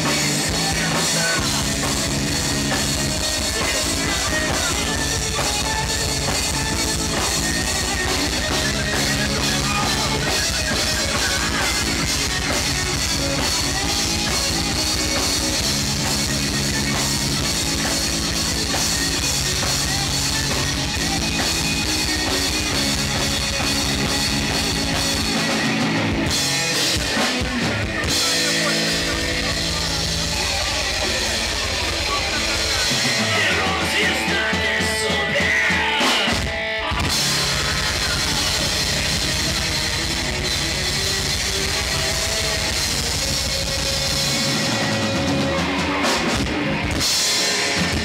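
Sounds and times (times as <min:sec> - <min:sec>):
rock band playing: 0:00.0 - 0:48.0.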